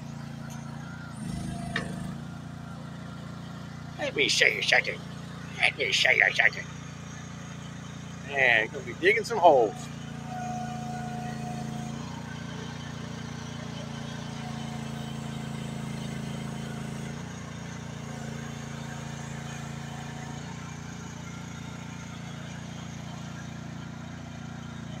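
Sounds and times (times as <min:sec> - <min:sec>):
mini excavator engine running: 0:00.0 - 0:25.0.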